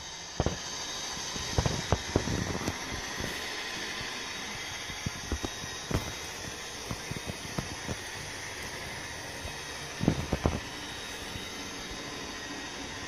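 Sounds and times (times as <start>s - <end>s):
irregular track clicks: 0.0s - 12.2s
model train whirring: 0.0s - 13.0s.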